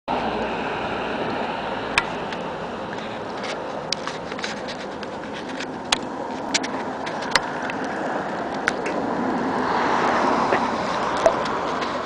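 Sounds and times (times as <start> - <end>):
outdoor traffic noise: 0.1 - 12.0.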